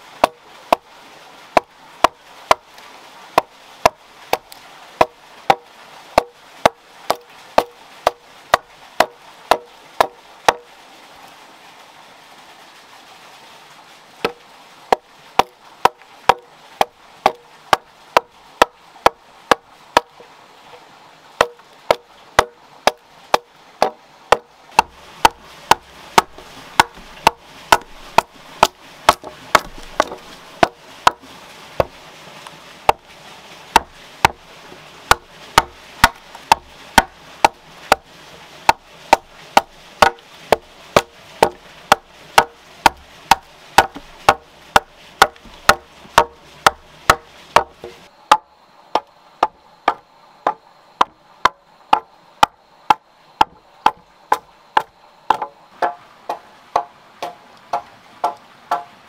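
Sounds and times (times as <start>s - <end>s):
axe chopping log: 0.2s - 0.9s, 1.6s - 2.7s, 3.4s - 10.7s, 14.2s - 20.1s, 21.4s - 31.2s, 33.7s - 34.4s, 35.1s - 38.0s, 38.6s - 58.9s.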